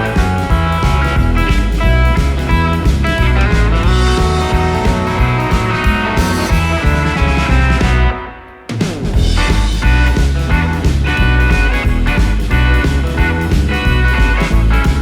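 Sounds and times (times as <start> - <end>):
guitar rock music: 0.0 - 15.0.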